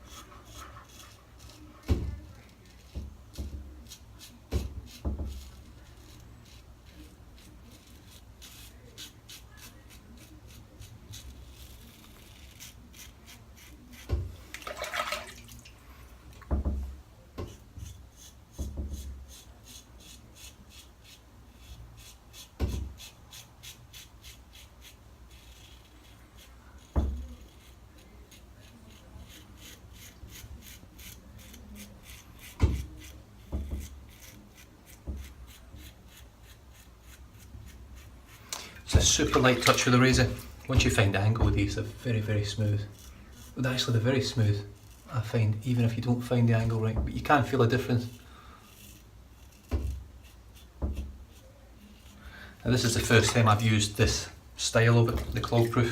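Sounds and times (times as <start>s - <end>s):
razor scraping stubble: 0.0s - 16.4s, 17.4s - 55.9s.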